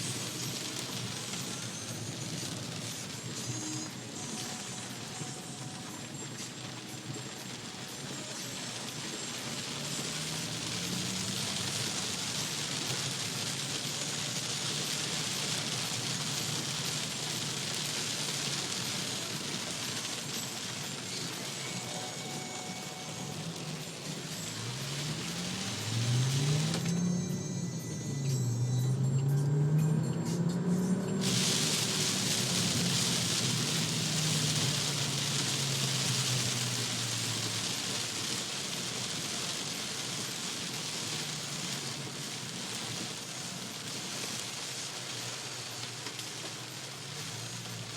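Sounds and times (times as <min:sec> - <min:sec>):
torrential rain pouring: 0:00.0 - 0:27.5, 0:28.4 - 0:47.9.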